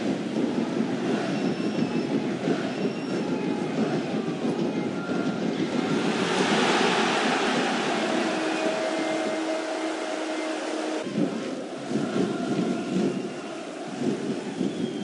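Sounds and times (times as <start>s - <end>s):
stadium crowd roar: 0.0s - 15.0s.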